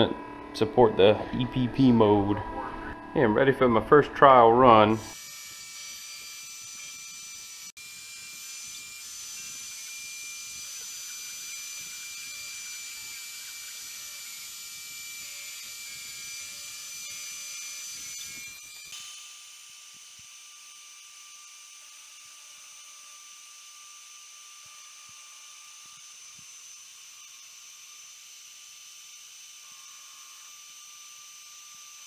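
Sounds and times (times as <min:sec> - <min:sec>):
rotary tool engraving a tile: 0:05.1 - 0:32.0.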